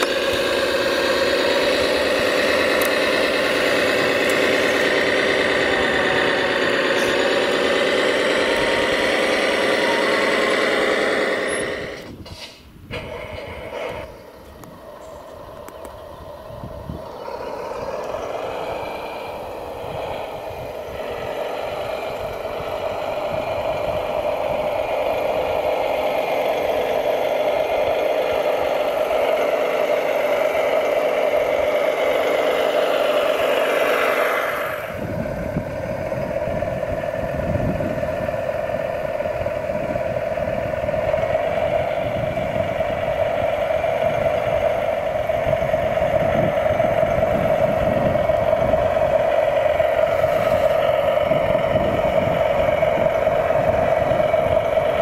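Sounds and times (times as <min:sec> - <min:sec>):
toy loader engine drone: 0:00.0 - 0:55.0.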